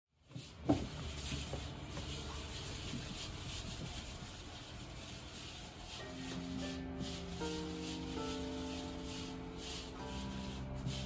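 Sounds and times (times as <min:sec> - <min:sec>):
hands rubbing flour in steel bowl: 0:00.2 - 0:11.0.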